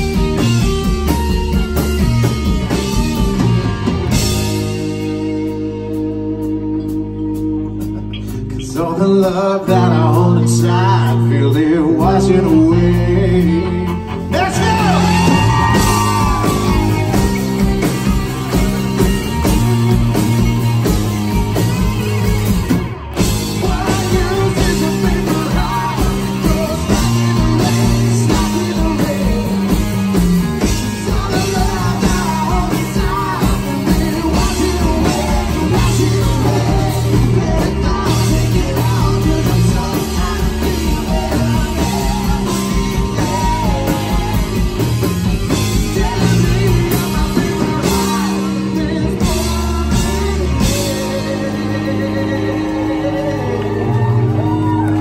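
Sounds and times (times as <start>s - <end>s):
bass guitar: 0.0s - 55.0s
drum kit: 0.0s - 55.0s
electric guitar: 0.0s - 55.0s
man singing: 8.2s - 20.9s, 23.2s - 54.8s.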